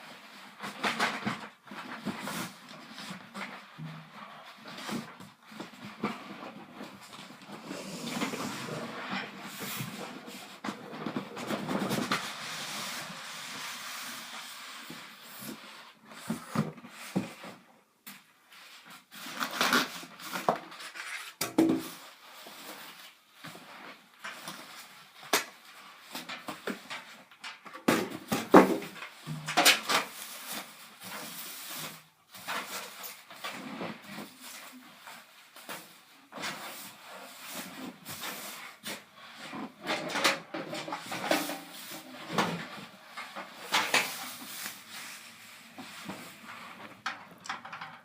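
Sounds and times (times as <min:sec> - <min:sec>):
packaging rustling and scraping: 0:00.2 - 0:17.7, 0:18.5 - 0:48.0.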